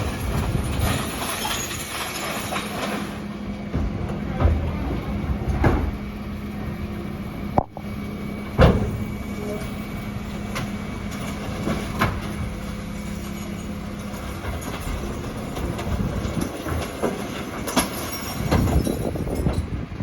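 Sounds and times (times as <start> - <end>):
refuse truck low hum: 0.0 - 20.0.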